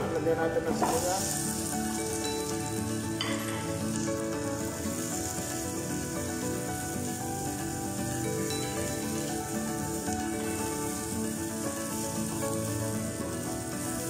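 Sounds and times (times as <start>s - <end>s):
background music: 0.0s - 14.0s
garlic and onion sizzling in oil: 0.0s - 14.0s.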